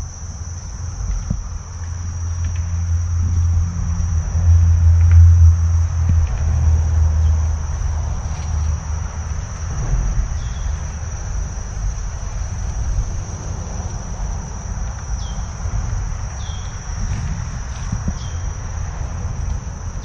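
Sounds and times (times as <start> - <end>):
insects chirring: 0.0 - 20.0
low rumble: 0.0 - 20.0.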